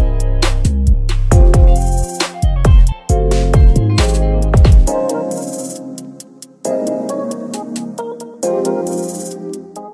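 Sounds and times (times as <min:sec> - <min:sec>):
electronic music: 0:00.0 - 0:09.9.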